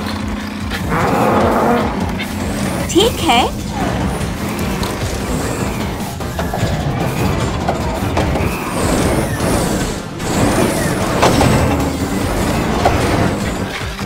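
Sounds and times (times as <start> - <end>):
mechanical noises: 0.0 - 14.0.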